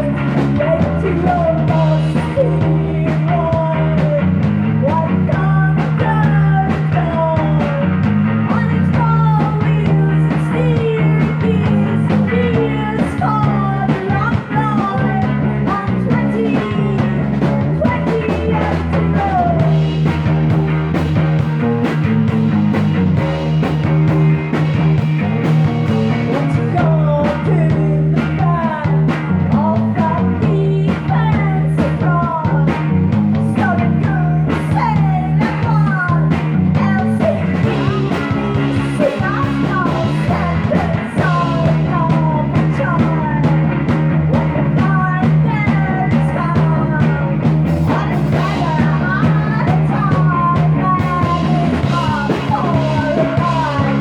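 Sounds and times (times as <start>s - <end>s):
psychedelic rock band playing: 0.0s - 54.0s.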